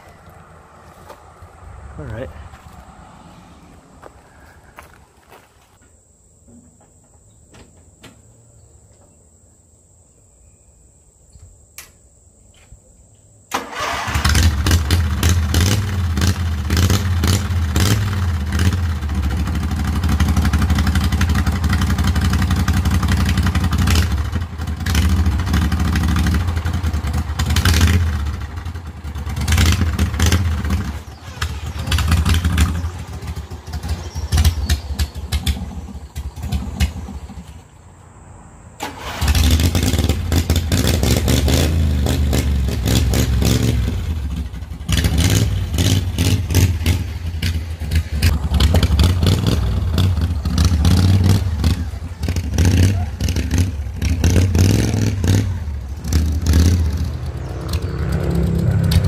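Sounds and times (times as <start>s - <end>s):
vehicle engine revving: 0.0s - 5.0s, 13.6s - 37.8s, 38.8s - 59.0s.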